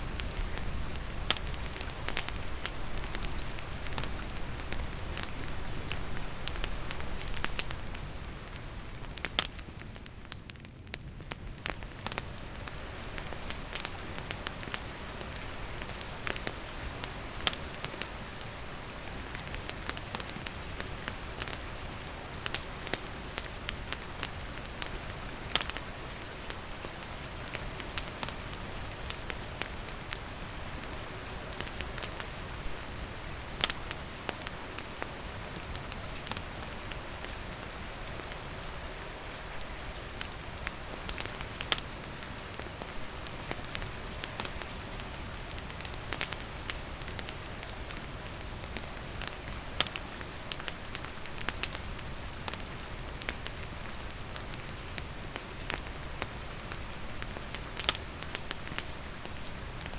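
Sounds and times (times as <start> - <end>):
campfire crackling and popping: 0.0 - 59.9
steady rain falling: 0.0 - 59.9.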